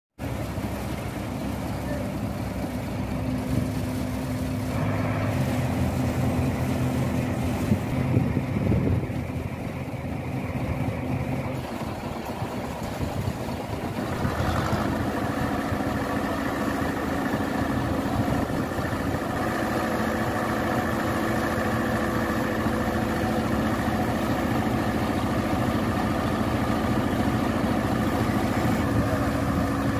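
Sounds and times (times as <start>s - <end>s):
diesel engines running: 0.2s - 29.9s.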